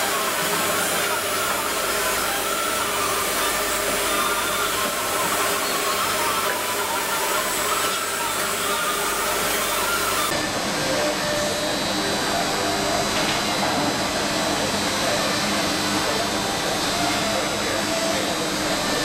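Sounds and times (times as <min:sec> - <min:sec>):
factory machinery hiss and hum: 0:00.0 - 0:19.0.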